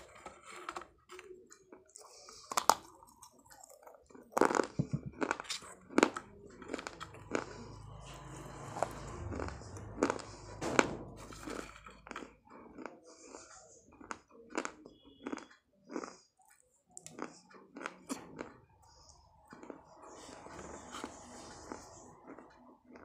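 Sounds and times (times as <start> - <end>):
chewing crunchy clay: 0.0 - 10.6, 11.4 - 23.0.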